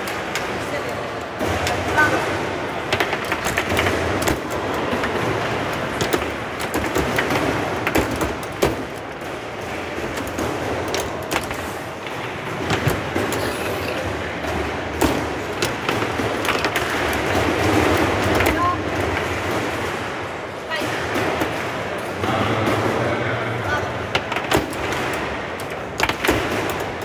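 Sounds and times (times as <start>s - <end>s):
steady background noise: 0.0s - 27.0s
foosball ball and rod clacks: 1.2s - 23.2s, 24.0s - 27.0s.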